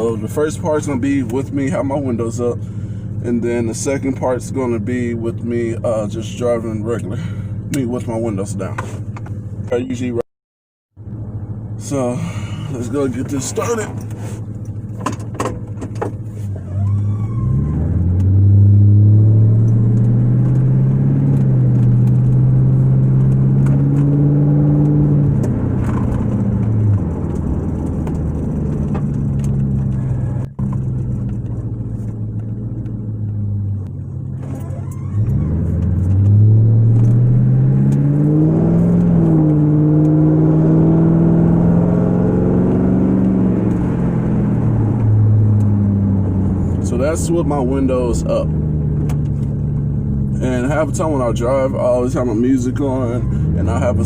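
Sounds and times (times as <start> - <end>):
car engine drone from inside cabin: 0.0 - 10.2, 11.0 - 54.0.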